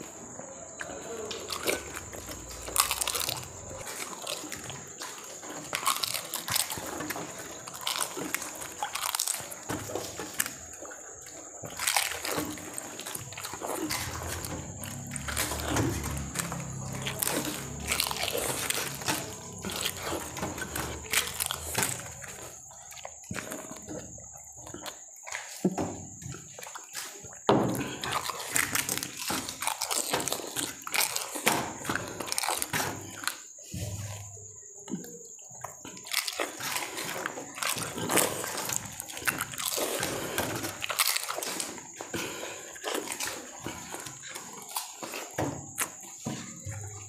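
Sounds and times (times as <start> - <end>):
puris crunching: 0.0 - 47.0
wet slurping and chewing: 0.0 - 47.0.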